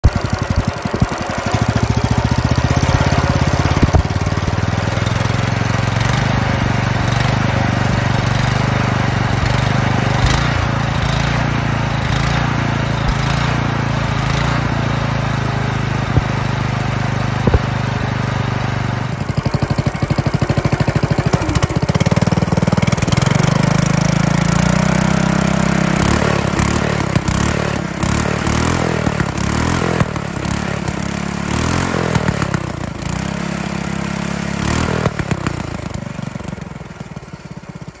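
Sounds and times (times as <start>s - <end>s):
engine revving: 0.0s - 37.8s
engine running: 0.0s - 38.0s.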